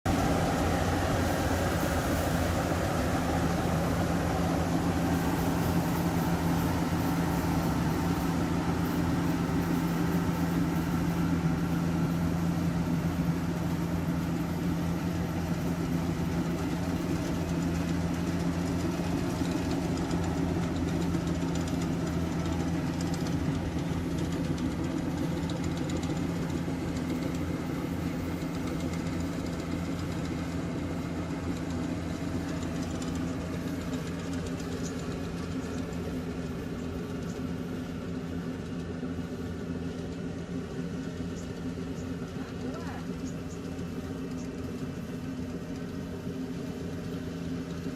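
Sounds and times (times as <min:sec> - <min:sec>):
harvester engine hum and clatter: 0:00.0 - 0:47.9.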